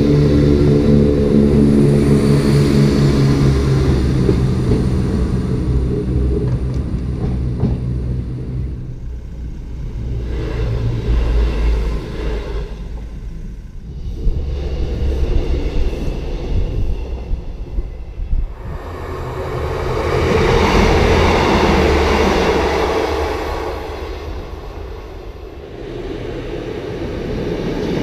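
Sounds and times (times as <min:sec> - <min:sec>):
low rumble: 0:00.0 - 0:28.0
train engine drone: 0:00.0 - 0:28.0.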